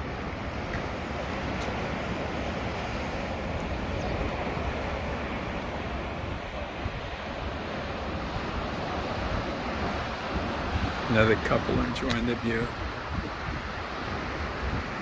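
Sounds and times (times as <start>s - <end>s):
sea surf: 0.0s - 15.0s
wind on microphone: 0.0s - 15.0s.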